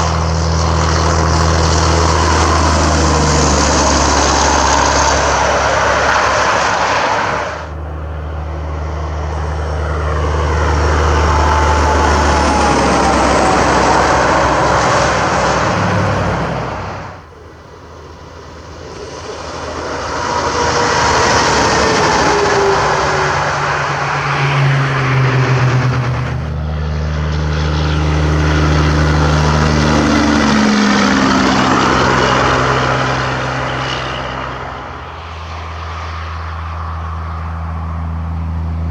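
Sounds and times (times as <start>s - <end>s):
falling whine: 0.0s - 38.9s
trucks driving past: 0.0s - 38.9s.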